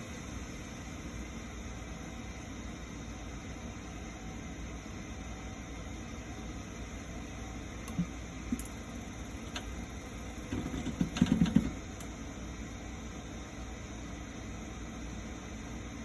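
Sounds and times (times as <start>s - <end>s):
boiler humming: 0.0s - 16.0s.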